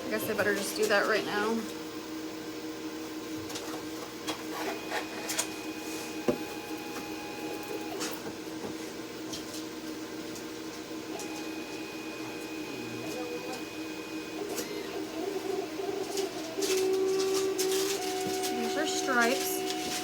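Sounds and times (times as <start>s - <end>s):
laser cutter humming and whining: 0.0s - 20.0s.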